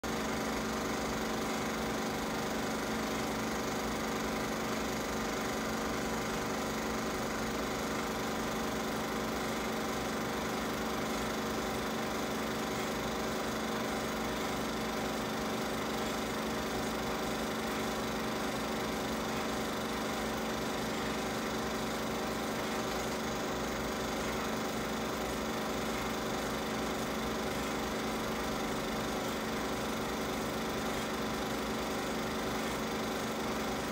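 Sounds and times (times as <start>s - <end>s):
film projector running: 0.0s - 33.9s.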